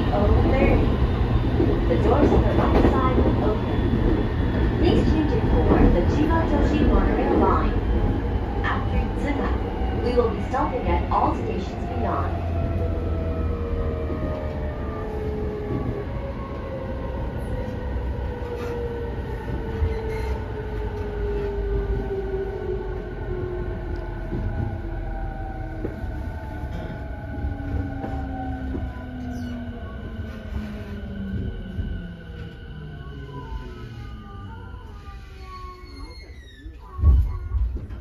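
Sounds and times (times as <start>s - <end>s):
low train rumble: 0.0s - 38.0s.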